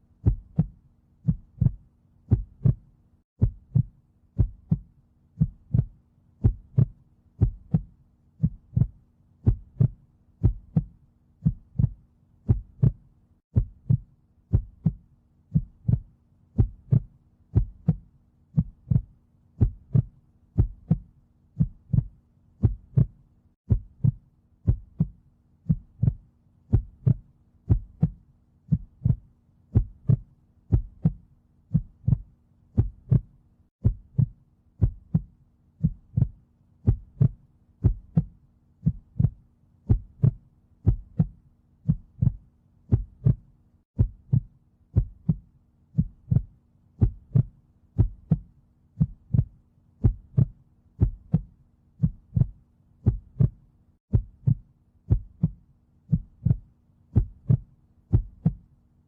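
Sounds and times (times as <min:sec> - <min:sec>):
heartbeat thumping: 0:00.2 - 0:58.7.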